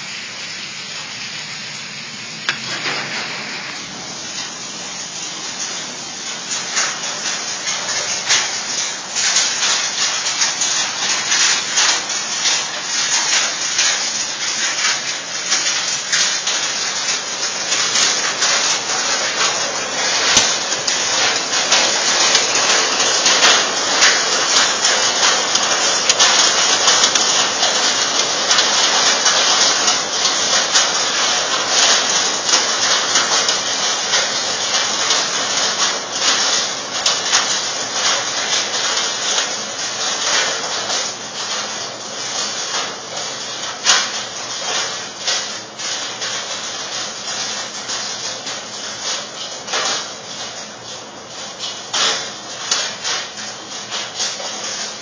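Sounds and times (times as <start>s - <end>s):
heavy rain hissing: 0.0s - 55.0s
hailstones striking: 2.4s - 55.0s.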